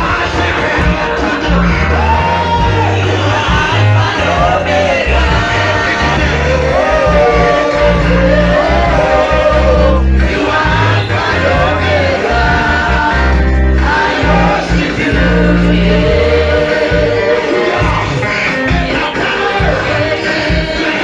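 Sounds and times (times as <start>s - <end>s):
band with heavy bass: 0.0s - 21.0s
person singing worship song: 0.0s - 21.0s.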